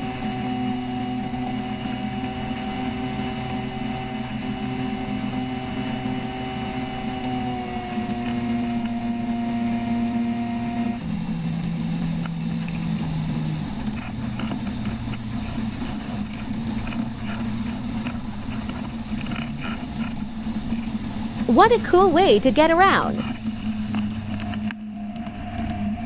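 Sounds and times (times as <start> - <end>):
flying boat engine humming: 1.7 - 24.6.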